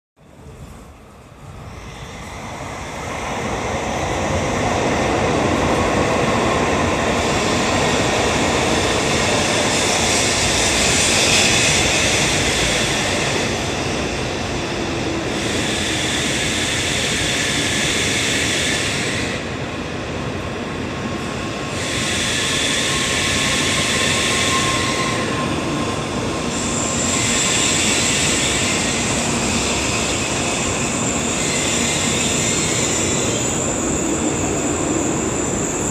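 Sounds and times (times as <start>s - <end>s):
high-speed train rushing on rails: 0.2s - 35.9s.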